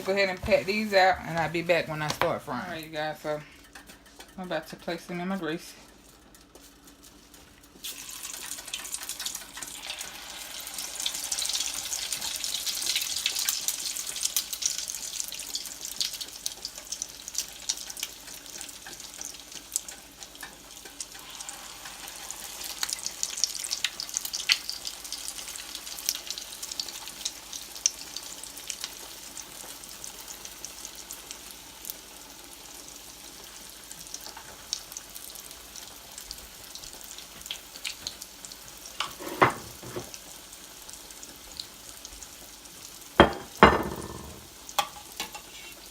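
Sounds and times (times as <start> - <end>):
patties sizzling in hot grease: 2.6 - 45.9.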